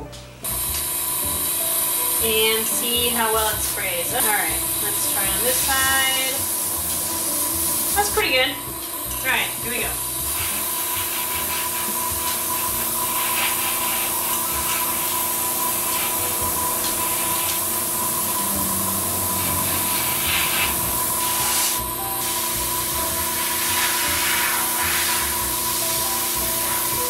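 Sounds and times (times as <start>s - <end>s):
air compressor humming: 0.0s - 27.0s
airbrush hissing: 0.4s - 27.0s.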